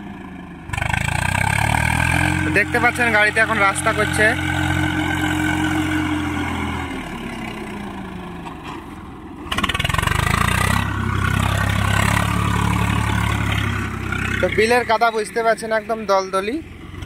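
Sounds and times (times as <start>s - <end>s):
tractor diesel engine: 0.0s - 17.0s.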